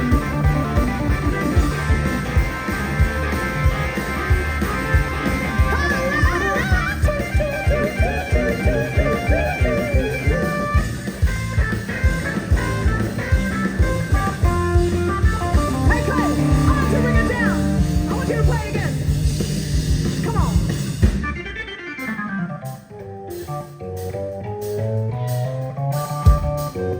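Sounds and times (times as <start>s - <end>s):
steady drum beat: 0.0s - 21.4s, 24.0s - 26.9s
bass: 0.0s - 26.9s
electric guitar lead: 0.0s - 26.9s.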